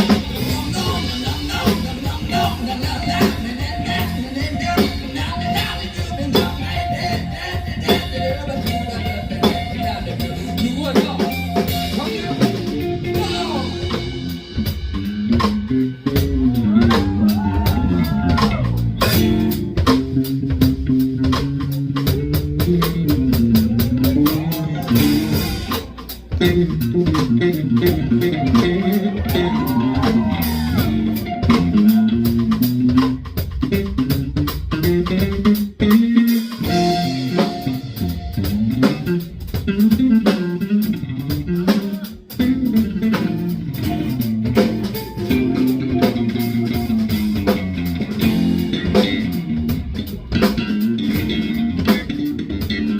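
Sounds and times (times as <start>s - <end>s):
live band music: 0.0s - 52.9s.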